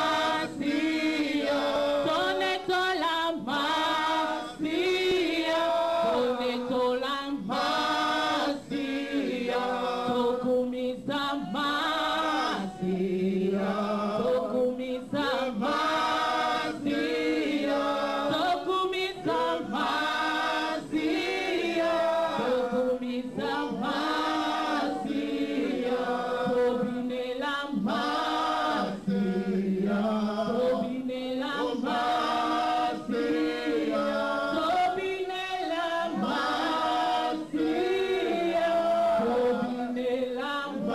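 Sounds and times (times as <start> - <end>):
congregation singing: 0.0 - 40.9.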